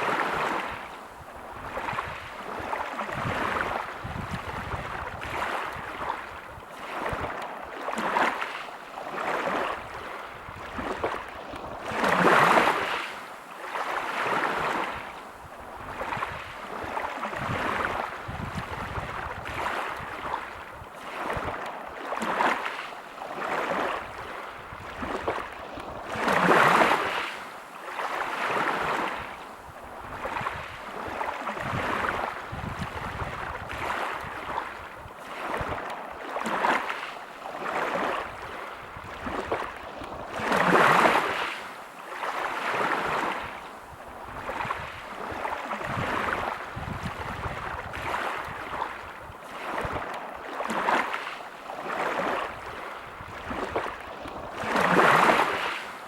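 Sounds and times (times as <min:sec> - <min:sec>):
waves breaking on pebble beach: 0:00.0 - 0:00.9, 0:01.6 - 0:15.1, 0:15.8 - 0:29.4, 0:30.1 - 0:56.0.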